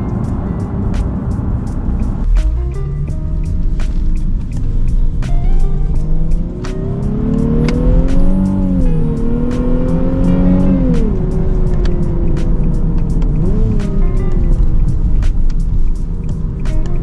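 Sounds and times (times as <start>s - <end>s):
car engine accelerating: 0.0s - 17.0s
road rumble: 0.0s - 17.0s.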